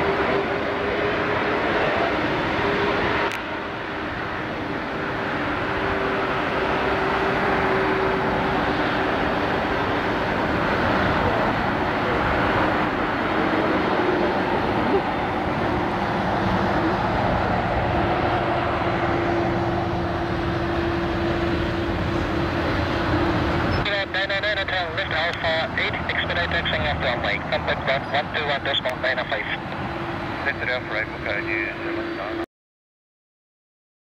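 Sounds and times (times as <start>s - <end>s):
jet engines rushing: 0.0s - 32.4s.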